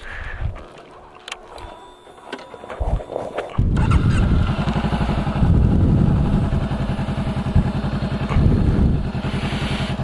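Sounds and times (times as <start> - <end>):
motorcycle engine at low revs: 1.5 - 10.0.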